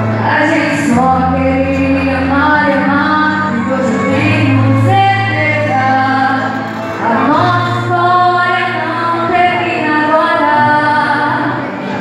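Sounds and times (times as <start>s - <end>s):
instrumental backing track: 0.0s - 12.0s
woman singing pop ballad: 0.0s - 12.0s.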